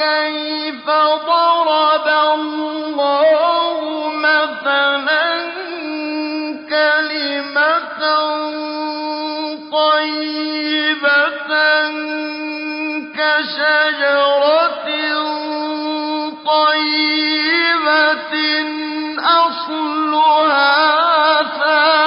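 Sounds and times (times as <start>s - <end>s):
man chanting melodically: 0.0s - 22.0s.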